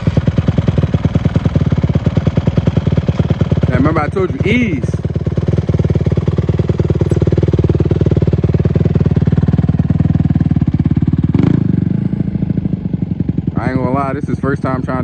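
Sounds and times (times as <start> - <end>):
engine knock: 0.0 - 15.0
motorbike engine at low revs: 0.0 - 15.0.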